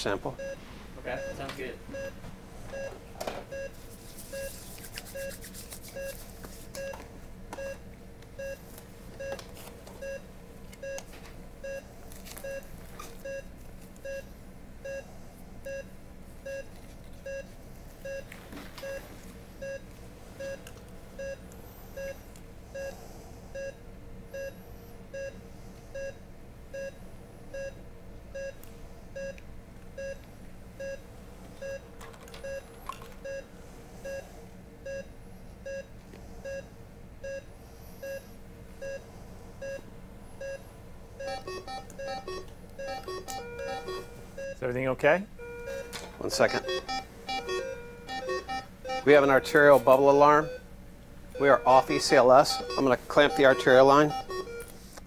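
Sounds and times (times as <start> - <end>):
patient monitor beeping: 0.0 - 6.2, 6.8 - 7.0, 7.6 - 23.0, 23.6 - 28.6, 29.2 - 29.4, 30.0 - 44.8, 45.4 - 50.7, 51.3 - 54.8.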